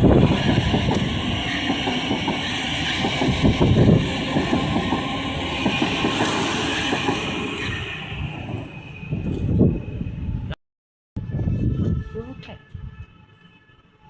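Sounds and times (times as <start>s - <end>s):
train running on rails: 0.0s - 10.6s, 11.2s - 14.0s.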